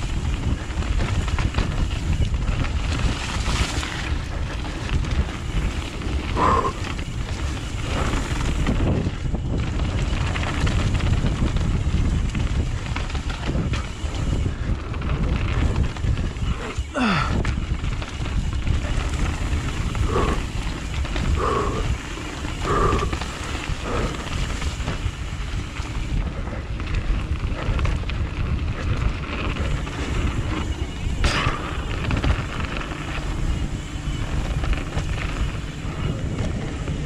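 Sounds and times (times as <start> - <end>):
wind on microphone: 0.0 - 37.0.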